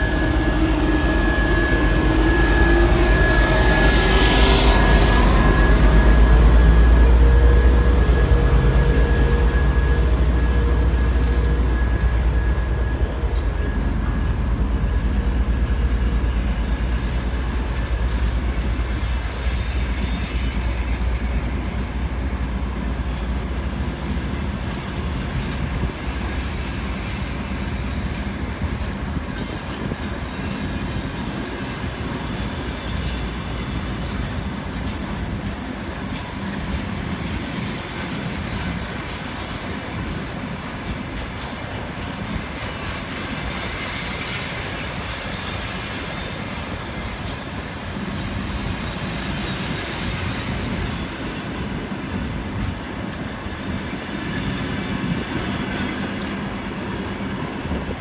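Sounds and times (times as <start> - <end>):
diesel locomotive engine droning: 0.0 - 58.0
passenger coaches rolling on rails: 0.0 - 58.0.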